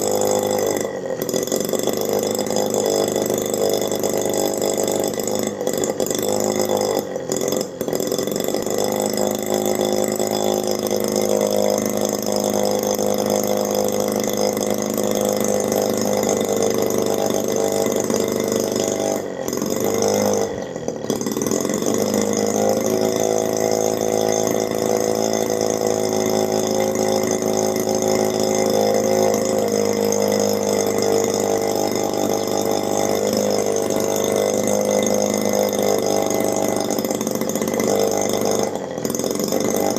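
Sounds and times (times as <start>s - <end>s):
miniature two-stroke engine running: 0.0s - 39.9s.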